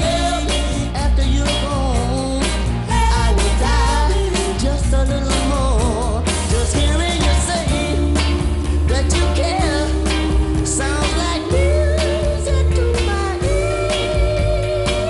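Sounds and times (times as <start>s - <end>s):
soul record with sung vocals: 0.0s - 15.0s.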